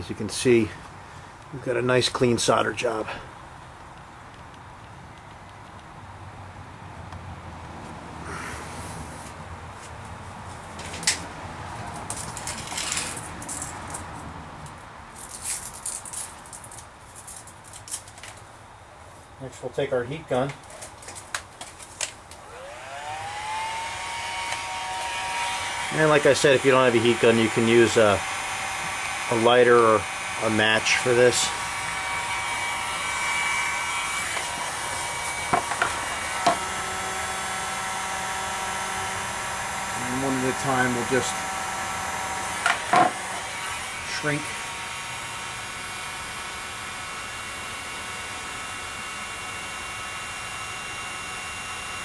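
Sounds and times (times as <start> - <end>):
heat gun fan hiss and whine: 0.0 - 52.0.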